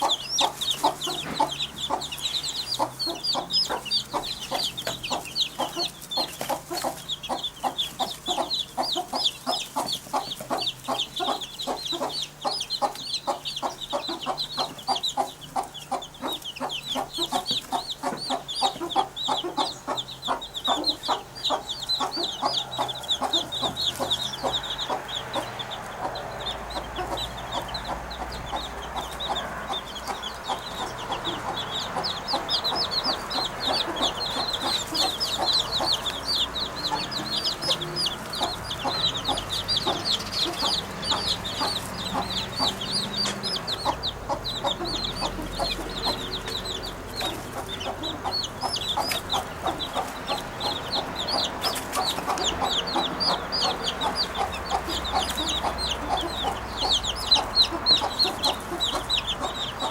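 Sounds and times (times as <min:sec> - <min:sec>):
birds chirping and clucking: 0:00.0 - 0:59.9.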